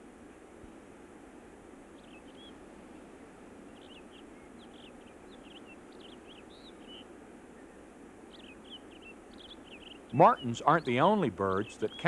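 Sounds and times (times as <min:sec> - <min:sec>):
low hiss: 0:00.0 - 0:12.0
birds chirping: 0:01.9 - 0:12.0.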